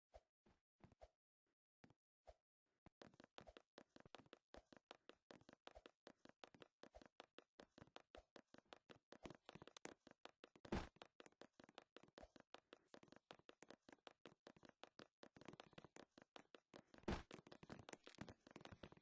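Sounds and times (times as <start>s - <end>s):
rapid clicking and tapping: 3.0s - 19.0s.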